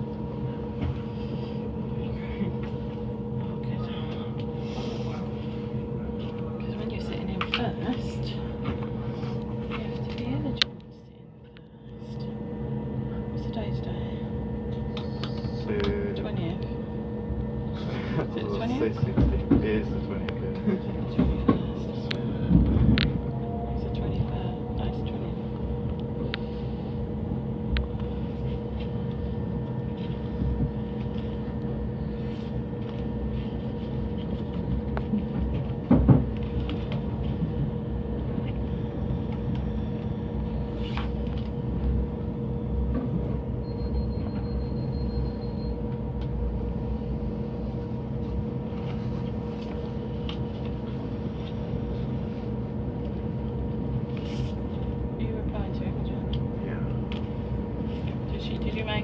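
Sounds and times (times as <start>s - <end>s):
train cabin rumble and hum: 0.0s - 59.0s.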